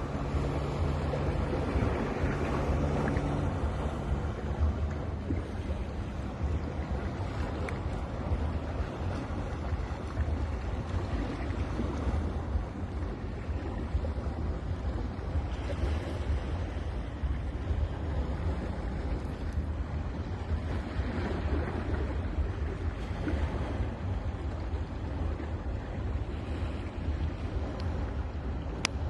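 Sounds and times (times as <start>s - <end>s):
ocean waves washing on beach: 0.0s - 29.0s
waves breaking: 0.0s - 29.0s.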